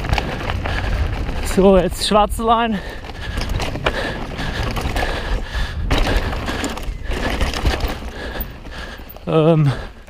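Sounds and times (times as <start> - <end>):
bike knocks and rattles: 0.0 - 10.0
wind and tyre rush: 0.0 - 10.0.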